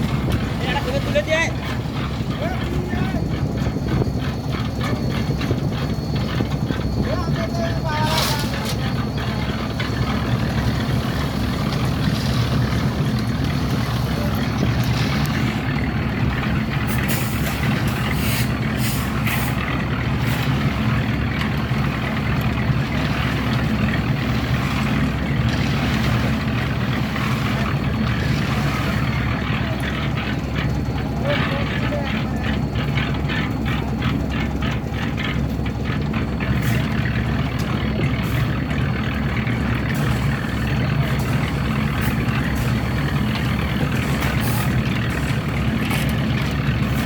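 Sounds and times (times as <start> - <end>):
heavy engine running: 0.0 - 47.0.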